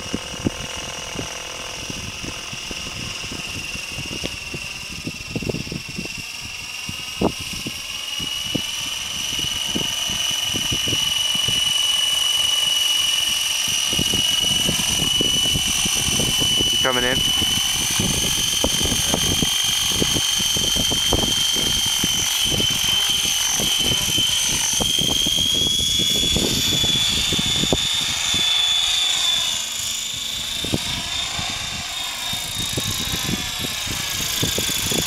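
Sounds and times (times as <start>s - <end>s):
rc helicopter rotor whine: 0.0s - 35.0s.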